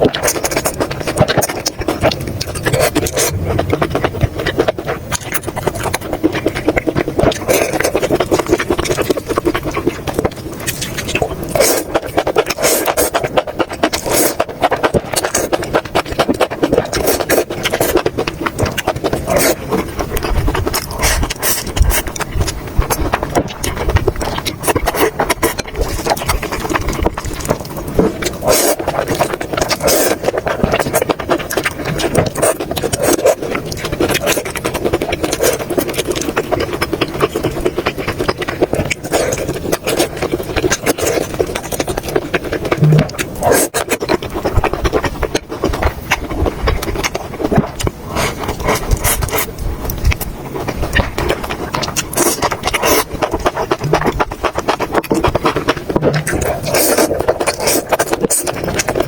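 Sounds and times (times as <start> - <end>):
wet chewing and mouth smacking: 0.0 - 59.0.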